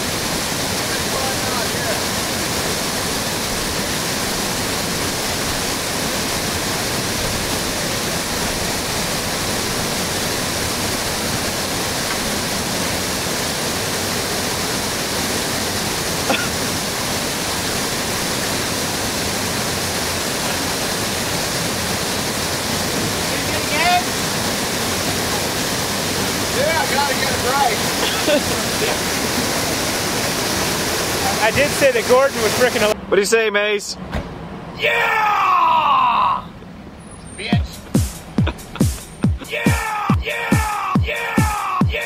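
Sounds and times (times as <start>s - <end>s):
whitewater rapid rushing: 0.0s - 33.0s, 34.6s - 36.4s, 37.4s - 42.0s.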